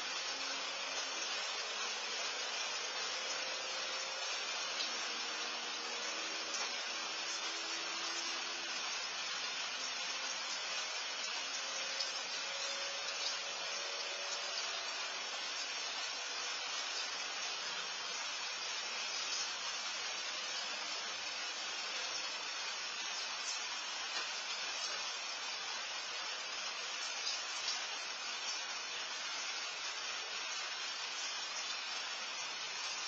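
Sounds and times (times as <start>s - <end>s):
steady microphone hiss: 0.0s - 33.0s.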